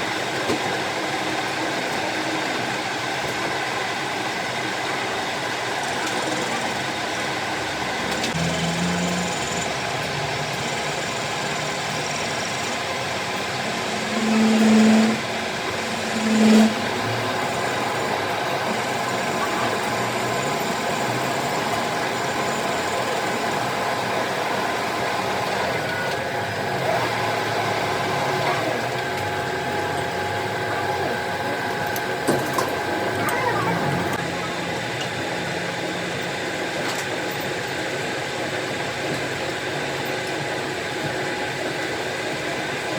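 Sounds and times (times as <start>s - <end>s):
workshop machinery running: 0.0s - 42.9s.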